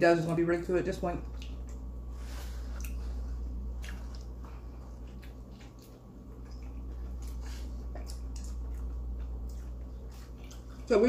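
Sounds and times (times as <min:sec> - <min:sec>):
steady low hum: 0:00.0 - 0:11.0
person chewing food: 0:01.2 - 0:11.0.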